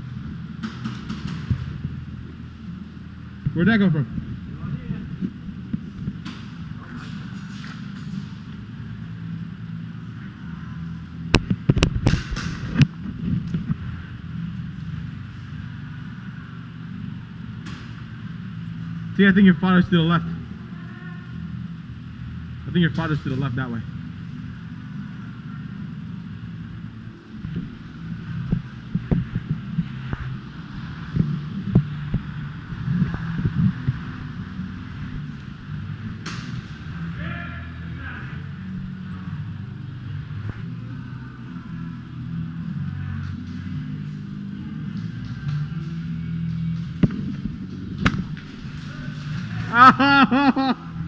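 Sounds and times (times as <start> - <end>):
steady low hum: 0.0 - 51.0
steady low rumble: 0.0 - 51.0.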